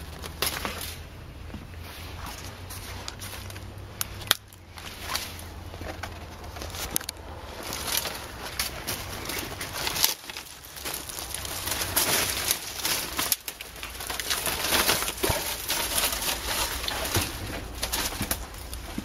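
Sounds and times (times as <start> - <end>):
twigs rustling and crackling underfoot: 0.0 - 19.0.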